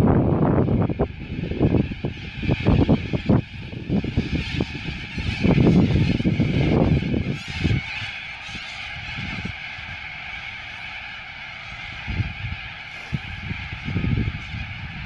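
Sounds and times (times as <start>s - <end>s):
cockatoos squawking: 0.8s - 15.0s.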